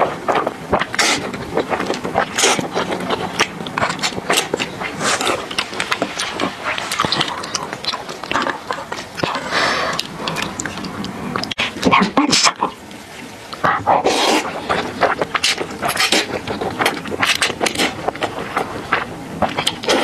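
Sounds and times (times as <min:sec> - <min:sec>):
noodle slurping: 0:00.0 - 0:11.8, 0:13.5 - 0:20.0
mouth clicks and smacks: 0:00.0 - 0:12.8, 0:13.5 - 0:20.0
wet chewing: 0:00.0 - 0:20.0.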